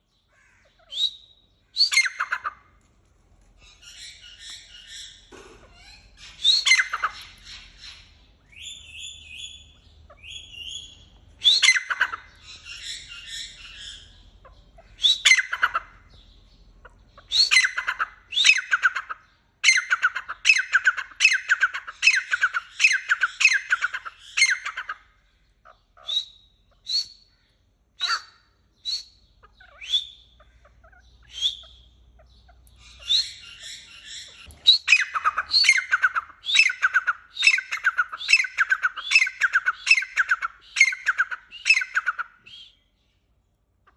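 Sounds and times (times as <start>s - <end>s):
partridge calling: 0.0s - 2.6s, 3.6s - 42.9s.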